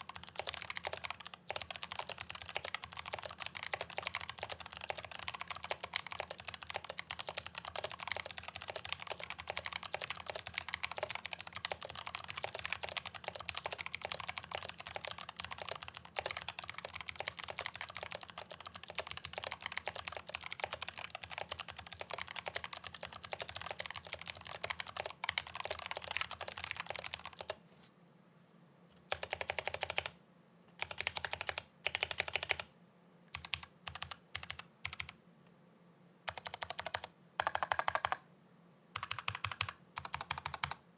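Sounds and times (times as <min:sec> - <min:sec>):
clicky mechanical keyboard typing: 0:00.0 - 0:27.6, 0:29.0 - 0:30.2, 0:30.8 - 0:32.7, 0:33.3 - 0:35.2, 0:36.3 - 0:38.2, 0:39.0 - 0:40.8.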